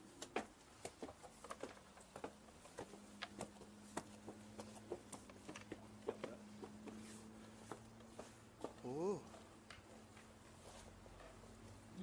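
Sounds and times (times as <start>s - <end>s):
footsteps on concrete floor: 0.1s - 11.9s.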